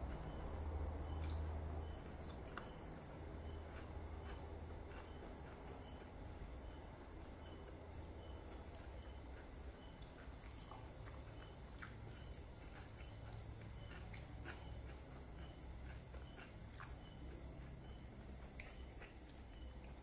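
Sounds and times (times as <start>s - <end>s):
steady low hum: 0.0s - 20.0s
person chewing: 1.1s - 20.0s.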